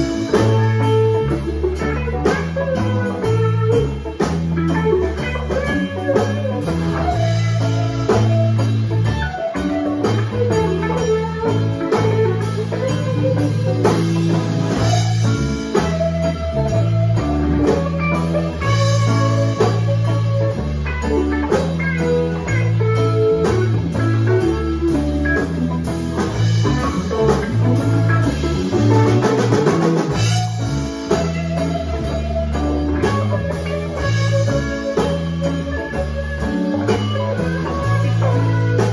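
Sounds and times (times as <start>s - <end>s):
drums and cymbals: 0.0s - 38.9s
electric bass notes: 0.0s - 38.9s
electric guitars: 0.0s - 38.9s.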